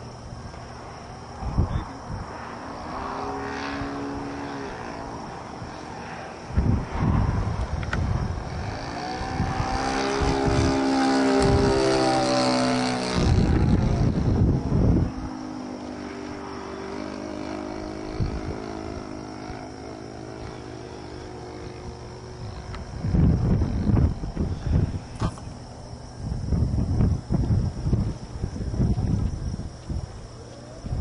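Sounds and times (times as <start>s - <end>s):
model airplane engine buzzing: 0.0s - 31.0s
wind gusts on microphone: 0.0s - 31.0s.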